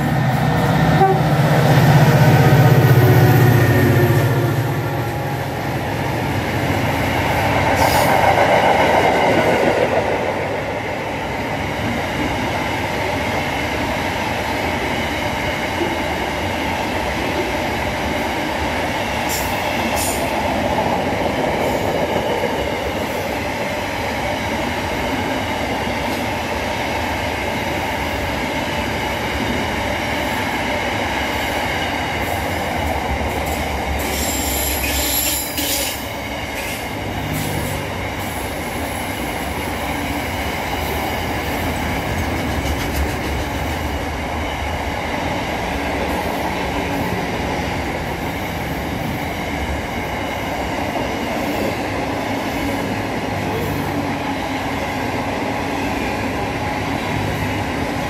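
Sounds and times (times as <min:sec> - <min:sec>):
train wheels on rail: 0:00.0 - 0:58.0.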